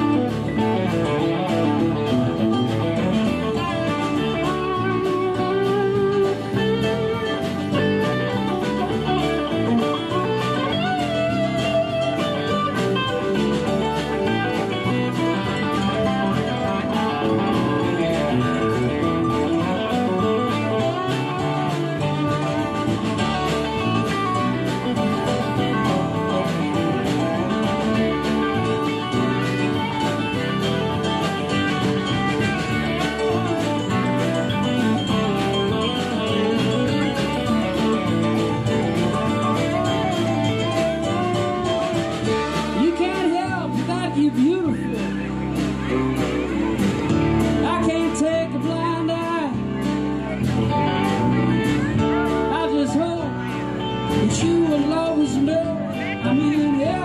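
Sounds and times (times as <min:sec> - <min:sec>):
live band playing: 0:00.0 - 0:57.0
steady drum beat: 0:00.0 - 0:57.0.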